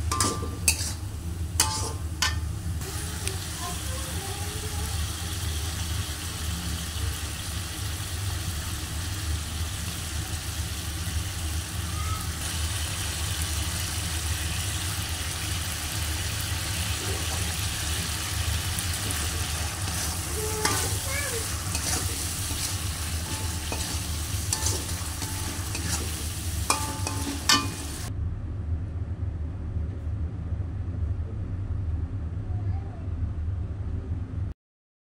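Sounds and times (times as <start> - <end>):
food sizzling in a wok: 0.0 - 28.1
continuous low hum: 0.0 - 34.6.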